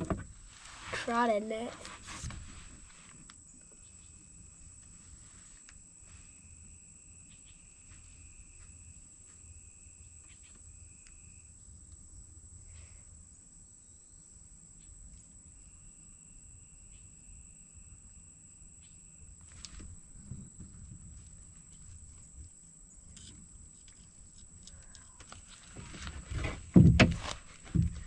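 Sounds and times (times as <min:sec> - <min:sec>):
lower insect trill: 0:03.1 - 0:25.8.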